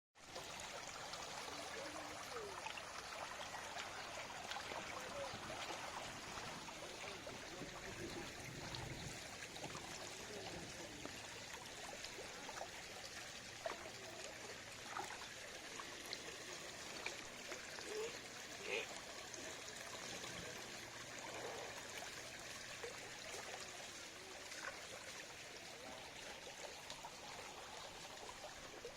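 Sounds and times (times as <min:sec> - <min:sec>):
water flowing steadily: 0:00.2 - 0:28.9.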